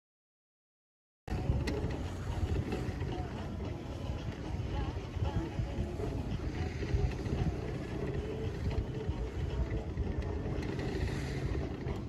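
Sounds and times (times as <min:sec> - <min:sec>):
wind buffeting microphone: 0:01.3 - 0:12.0.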